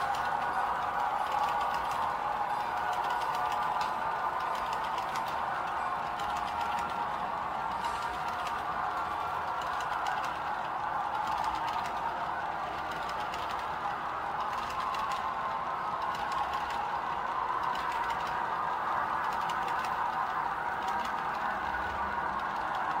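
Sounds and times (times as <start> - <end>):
model train hum: 0.0 - 23.0
wheels clicking over rails: 0.0 - 23.0.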